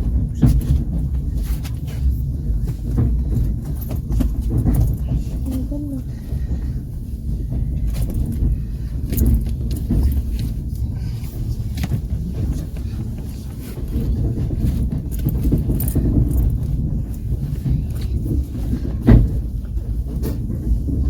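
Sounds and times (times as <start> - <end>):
train coach rumbling: 0.0 - 21.0.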